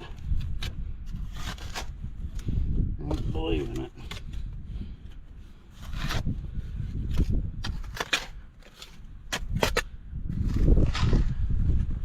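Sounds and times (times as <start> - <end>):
shovel scraping soil: 0.0 - 4.6, 5.5 - 11.4.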